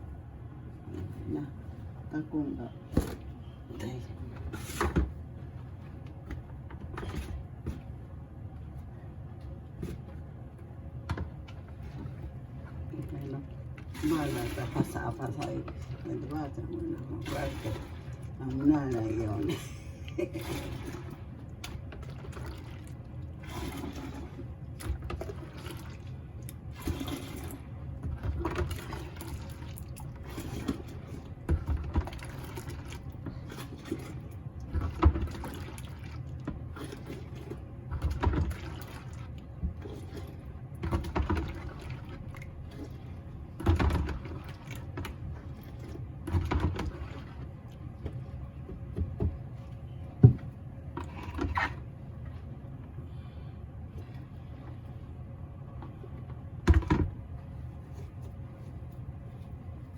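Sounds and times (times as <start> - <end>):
water sloshing and splashing: 0.0 - 59.9.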